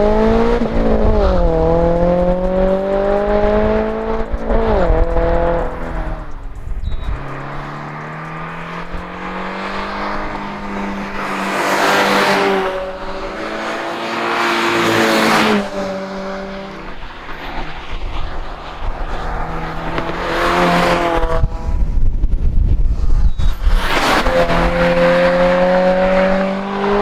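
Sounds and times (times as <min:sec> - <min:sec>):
car exhaust deep tone: 0:00.0 - 0:27.0.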